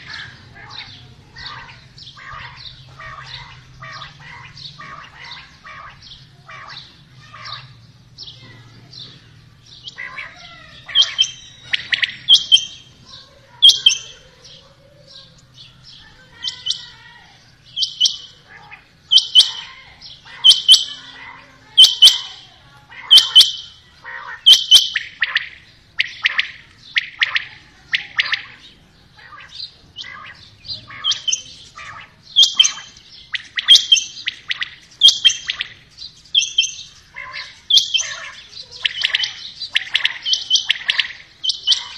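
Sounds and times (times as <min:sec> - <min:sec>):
quail calling: 0:00.0 - 0:08.6, 0:09.7 - 0:15.4, 0:16.0 - 0:41.9.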